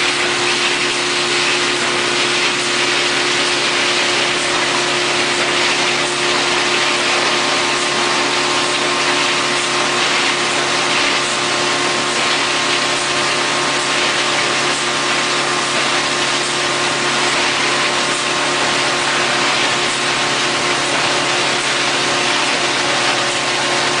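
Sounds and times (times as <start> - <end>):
industrial machine hissing and humming: 0.0 - 24.0.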